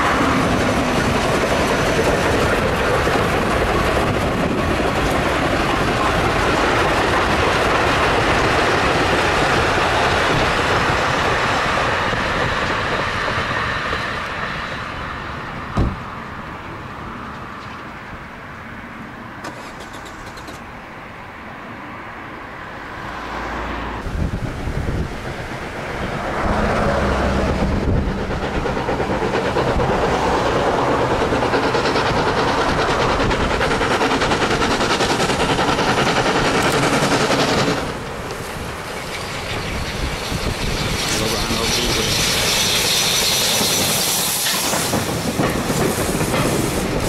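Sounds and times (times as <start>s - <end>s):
steam train running: 0.0s - 18.9s, 22.6s - 47.0s.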